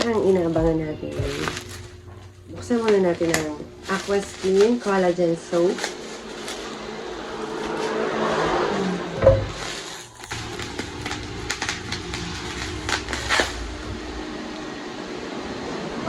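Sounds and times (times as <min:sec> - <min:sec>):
wrapping crinkling: 0:00.0 - 0:14.4.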